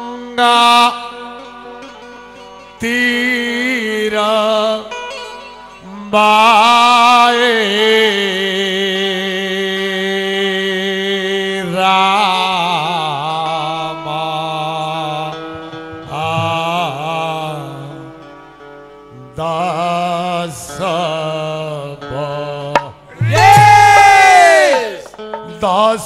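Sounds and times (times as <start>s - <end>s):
man singing devotional song: 0.0s - 1.6s, 2.8s - 5.0s, 5.8s - 18.3s, 19.2s - 26.0s
harmonium: 0.0s - 23.0s.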